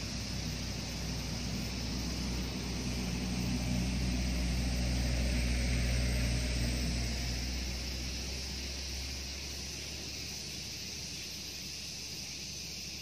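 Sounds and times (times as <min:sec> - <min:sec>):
distant engine droning: 0:00.0 - 0:13.0
steady high hiss: 0:00.0 - 0:13.0.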